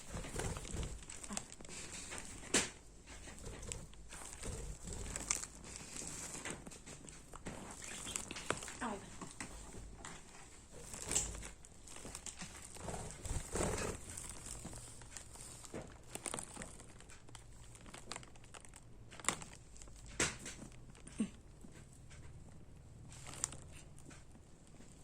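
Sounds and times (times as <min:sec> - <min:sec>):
budgie playing with hair clips: 0:00.0 - 0:25.0.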